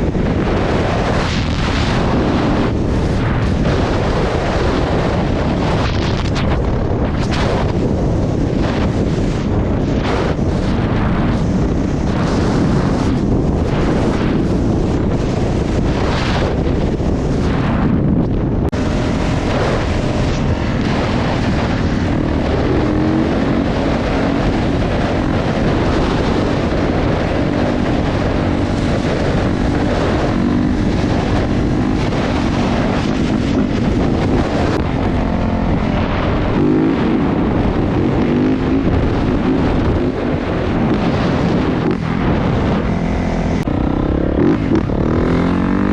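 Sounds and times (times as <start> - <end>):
motorcycle engine revving: 0.0 - 45.9
wind noise on microphone: 0.0 - 45.9.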